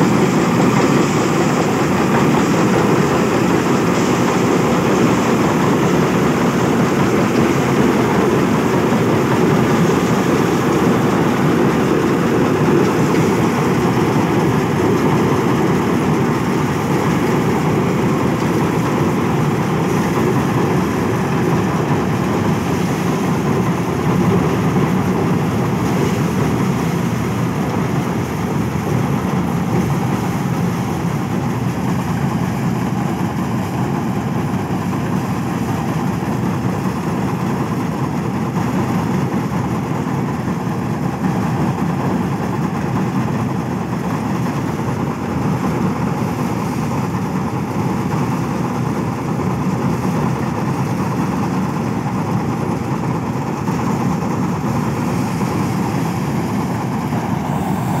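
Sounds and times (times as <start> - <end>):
tractor and harvester running: 0.0 - 58.0.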